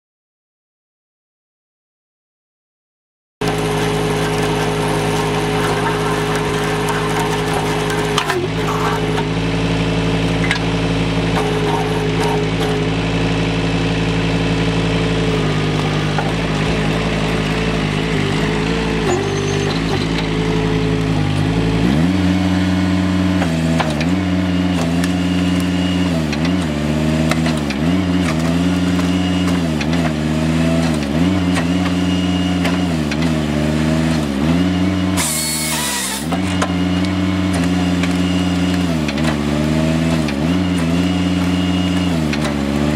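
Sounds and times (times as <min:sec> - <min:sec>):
machine engine revving: 0:03.4 - 0:42.9
saw cutting through log: 0:03.4 - 0:42.9.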